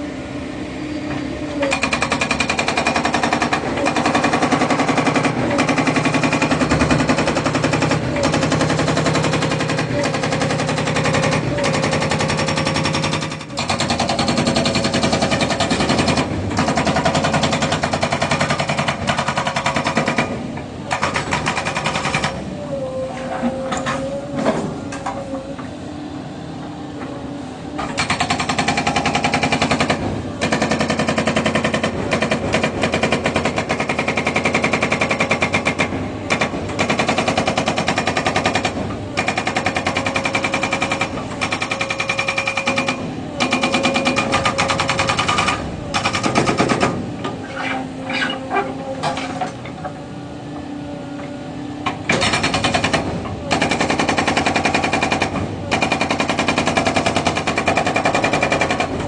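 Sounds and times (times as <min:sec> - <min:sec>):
excavator engine and hydraulics: 0:00.0 - 0:59.0
hydraulic breaker hammering: 0:01.6 - 0:22.5, 0:27.8 - 0:59.0.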